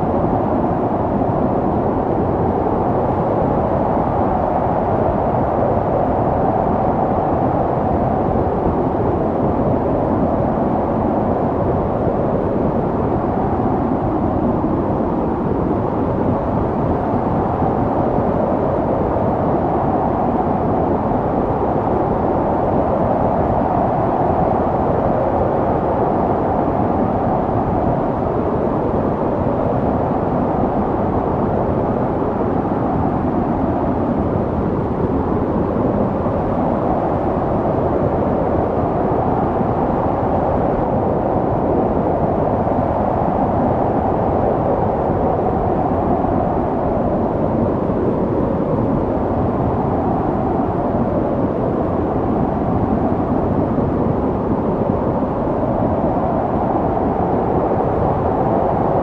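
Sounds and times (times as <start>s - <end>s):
snowstorm wind rushing: 0.0s - 59.0s.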